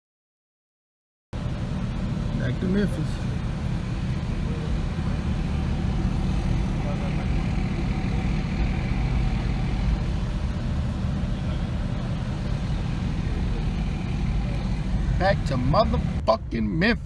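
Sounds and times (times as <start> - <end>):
vehicle engine and road noise: 1.4 - 17.0.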